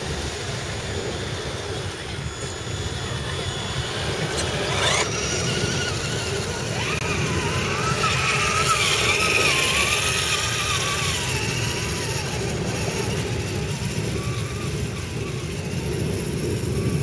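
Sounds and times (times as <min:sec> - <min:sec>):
toy truck electric motors whining: 0:00.0 - 0:17.0
wind rumble on microphone: 0:00.0 - 0:17.0.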